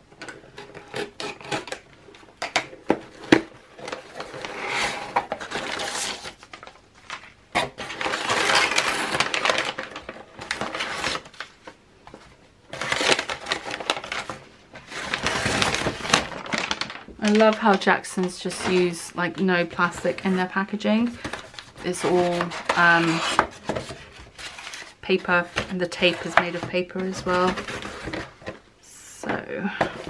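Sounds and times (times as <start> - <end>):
packing paper rustling: 0.3 - 28.6.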